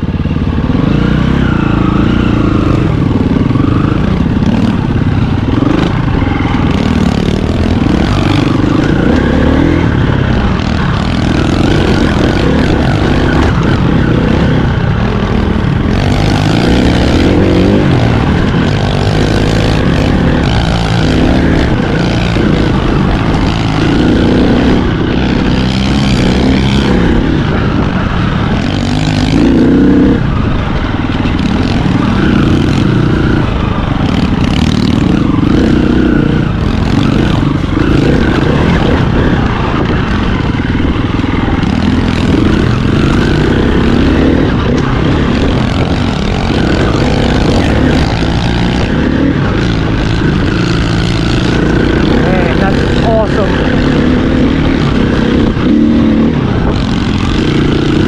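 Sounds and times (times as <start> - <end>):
broad rushing noise: 0.0 - 58.0
dirt bike engine revving: 0.0 - 58.0.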